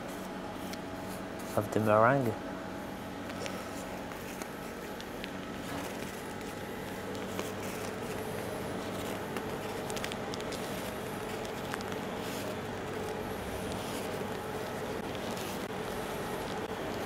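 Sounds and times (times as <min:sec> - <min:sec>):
steady hum: 0:00.0 - 0:17.0
meringue crust crackling: 0:03.1 - 0:17.0.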